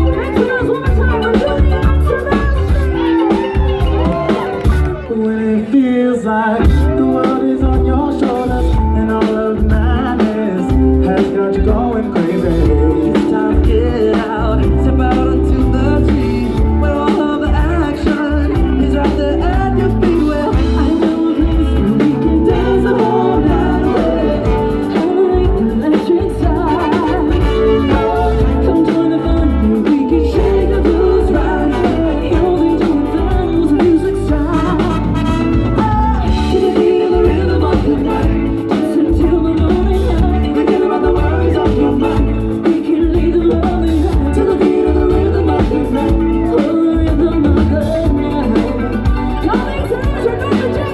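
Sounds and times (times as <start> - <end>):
live band music with singing: 0.0 - 50.9.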